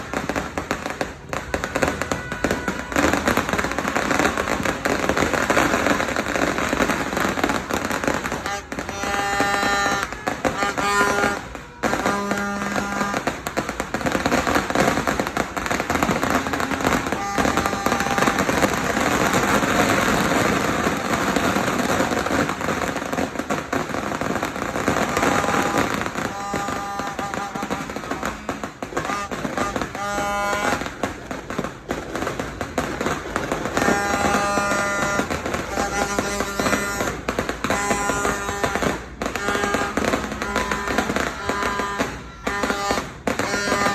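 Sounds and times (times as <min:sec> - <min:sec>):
firecrackers popping: 0:00.0 - 0:43.9.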